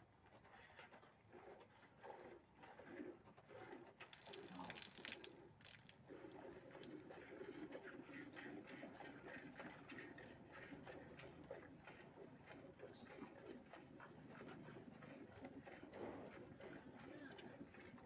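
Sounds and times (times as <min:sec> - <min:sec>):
milk squirting into steel pail: 0:01.4 - 0:18.0.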